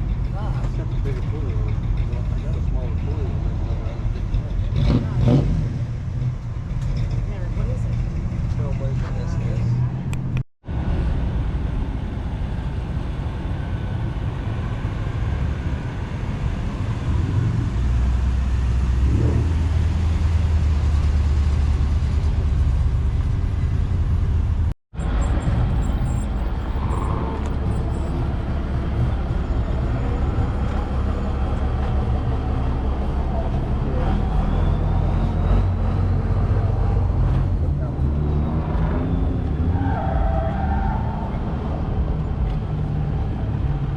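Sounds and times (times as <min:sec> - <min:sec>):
car engine rumbling: 0:00.0 - 0:43.9.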